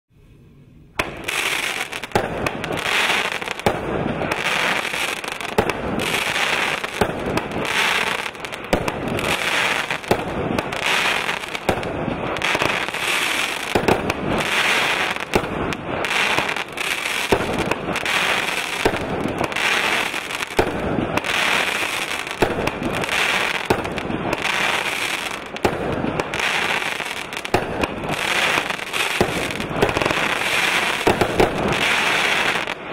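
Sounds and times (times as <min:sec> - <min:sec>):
crackling firework stars: 0:00.1 - 0:32.9
fireworks firing shots: 0:01.0 - 0:32.9.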